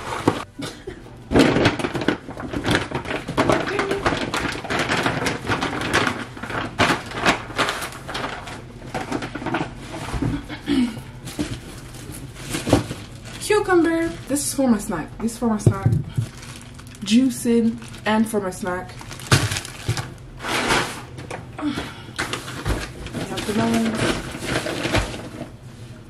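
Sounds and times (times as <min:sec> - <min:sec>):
plastic bags rustling: 0:00.0 - 0:26.0.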